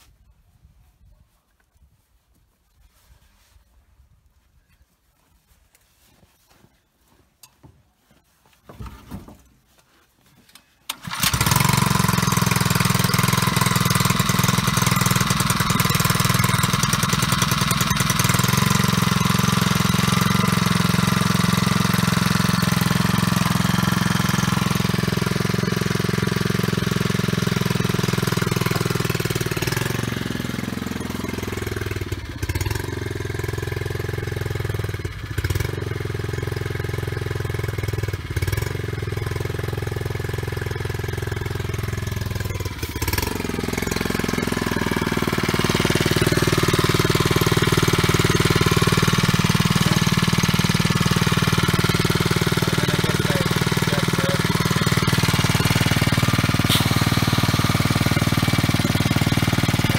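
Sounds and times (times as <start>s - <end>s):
small gasoline pump engine running: 10.9s - 59.9s.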